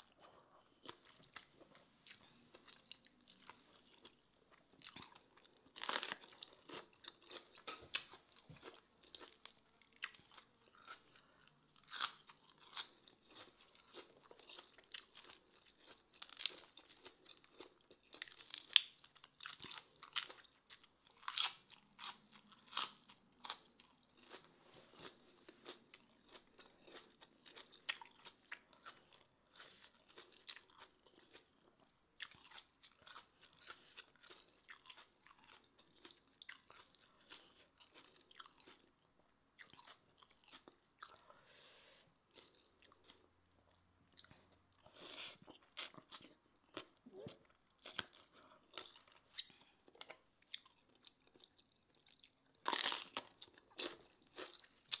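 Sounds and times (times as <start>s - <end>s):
crunchy vegetables being chewed: 0.0s - 39.0s, 39.6s - 55.0s.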